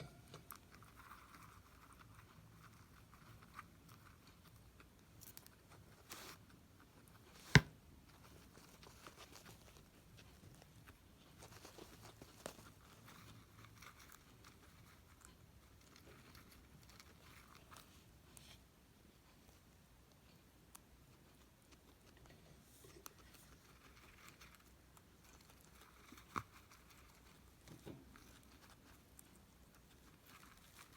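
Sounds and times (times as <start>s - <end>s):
guinea pig chewing food: 0.0s - 30.9s.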